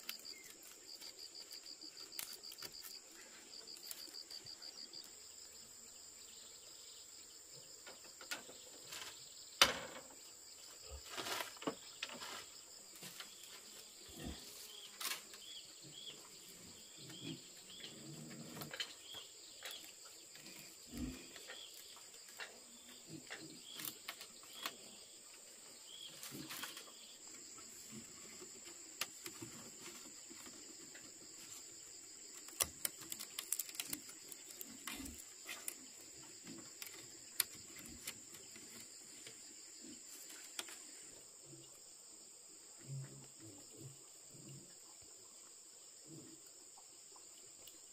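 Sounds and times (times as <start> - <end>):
insect trill: 0.0 - 47.9.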